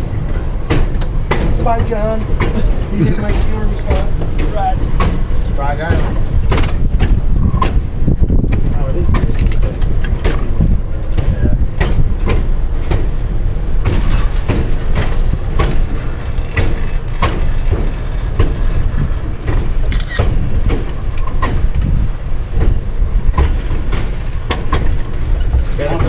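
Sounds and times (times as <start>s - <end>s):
train rumble: 0.0s - 26.0s
train wheels clacking: 0.0s - 26.0s.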